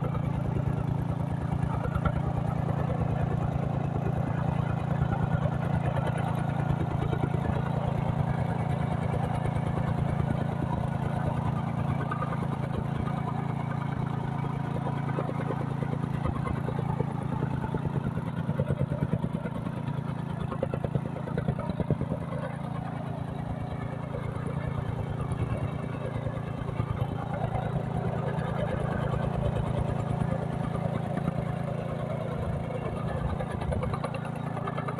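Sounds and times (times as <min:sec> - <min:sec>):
small engine humming: 0:00.0 - 0:34.9.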